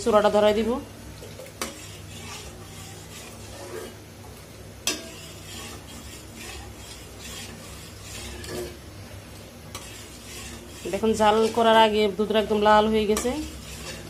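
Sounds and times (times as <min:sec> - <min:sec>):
ladle scraping metal pot: 0:01.2 - 0:04.1, 0:04.8 - 0:14.0.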